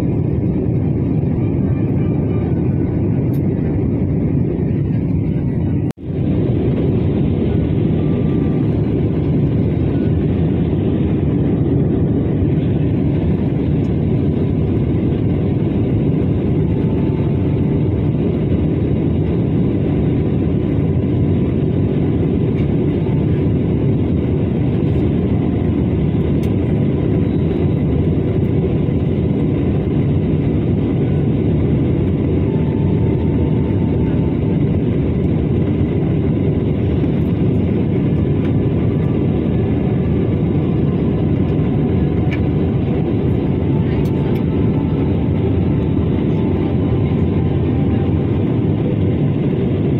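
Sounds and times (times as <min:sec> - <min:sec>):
jet engines and rushing air rumble: 0:00.0 - 0:49.9.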